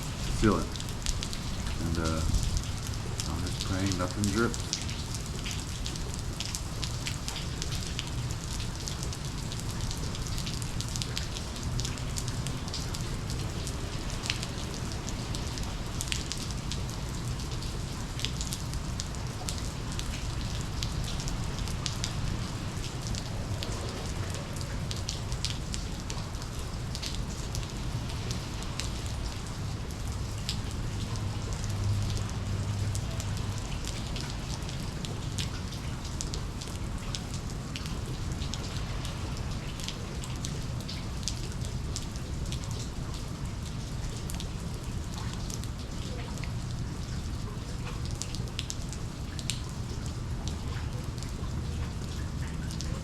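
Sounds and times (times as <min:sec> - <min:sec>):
low rain rumble: 0:00.0 - 0:53.0
raindrops clicking on surfaces: 0:00.0 - 0:53.0.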